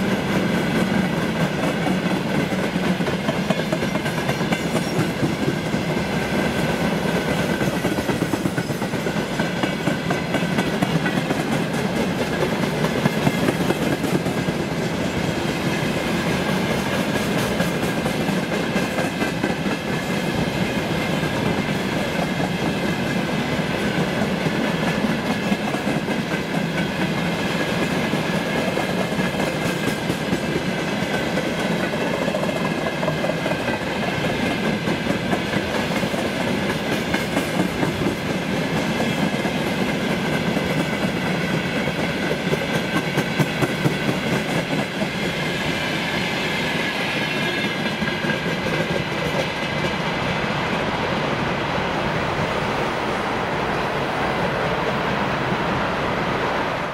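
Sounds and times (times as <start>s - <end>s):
train wheels rumbling on rails: 0.0s - 56.9s
wheels clickety-clack over joints: 0.3s - 45.6s, 47.4s - 50.3s.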